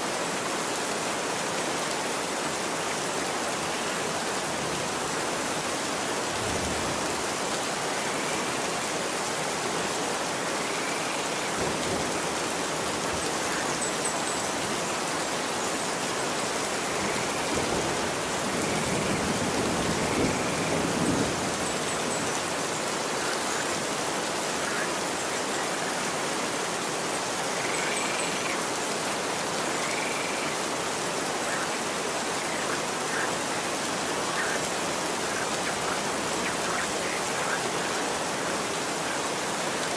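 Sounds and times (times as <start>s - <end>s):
rain falling on street: 0.0s - 39.9s.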